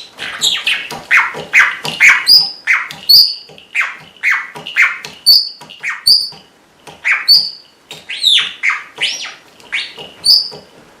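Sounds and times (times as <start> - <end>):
high bird chirps: 0.0 - 6.4, 7.0 - 10.7
parrot bark-like calls: 0.1 - 6.4, 7.0 - 10.6.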